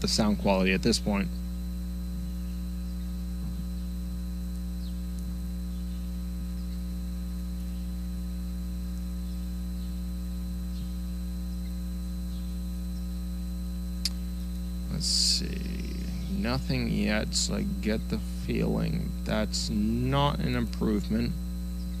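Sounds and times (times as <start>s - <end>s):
electrical mains hum: 0.0s - 22.0s
thin high whine: 0.0s - 22.0s.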